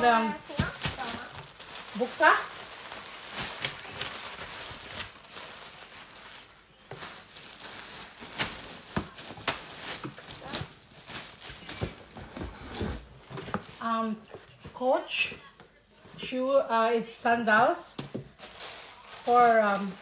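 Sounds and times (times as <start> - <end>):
plastic packaging rustling: 0.0 - 14.8, 18.0 - 20.0.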